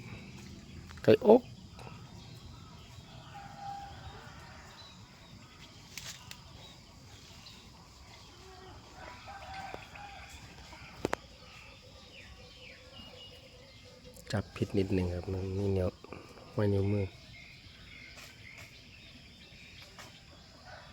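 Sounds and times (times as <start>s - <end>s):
chicken clucking: 0.0s - 17.1s.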